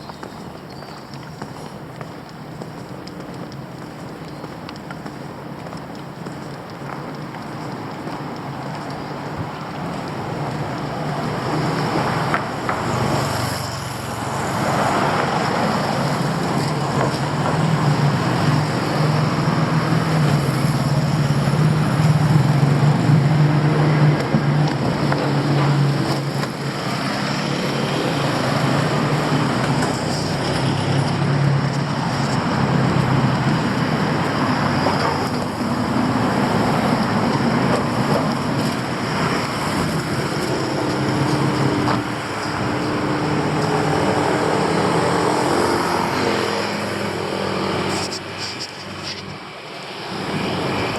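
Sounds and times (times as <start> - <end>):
general traffic noise: 0.0 - 50.9
vehicle engines humming: 0.0 - 50.9.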